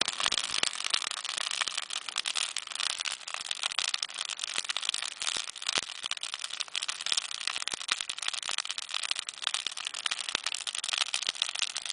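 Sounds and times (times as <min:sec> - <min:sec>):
campfire crackling and popping: 0:00.0 - 0:11.9.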